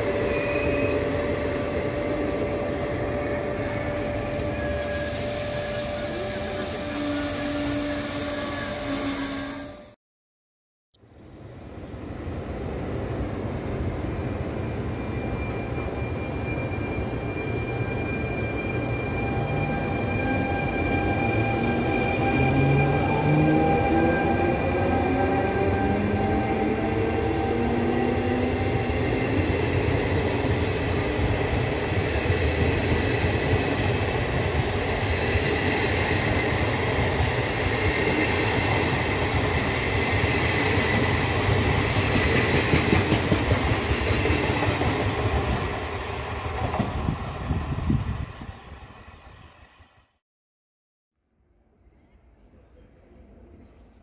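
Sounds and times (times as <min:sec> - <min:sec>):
electric locomotive whine: 0:00.0 - 0:10.0, 0:11.1 - 0:50.2.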